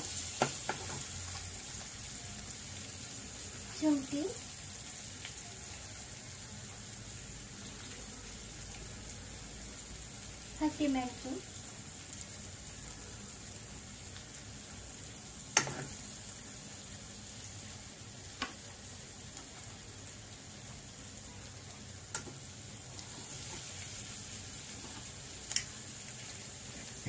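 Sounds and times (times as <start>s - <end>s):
onions sizzling in a pan: 0.0s - 27.0s.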